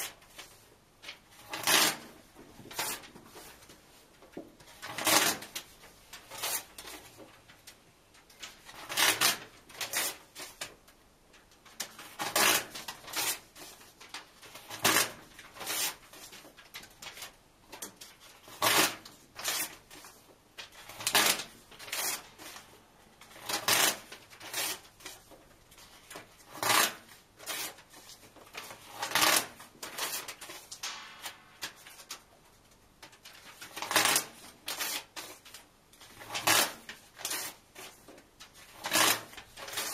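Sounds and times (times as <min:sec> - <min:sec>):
paper pages tearing: 0:00.0 - 0:03.5, 0:04.7 - 0:07.1, 0:08.4 - 0:10.7, 0:11.7 - 0:32.2, 0:33.2 - 0:39.9.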